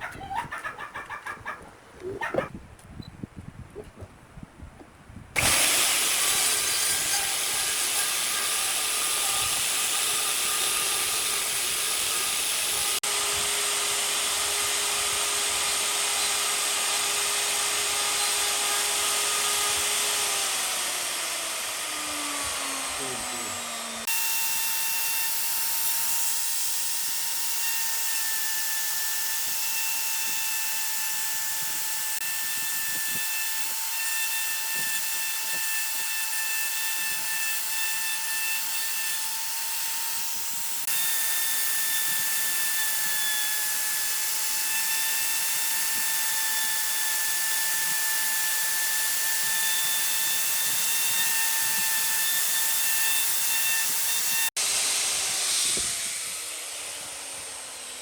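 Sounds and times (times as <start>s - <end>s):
power tool motor whine: 5.4s - 58.0s.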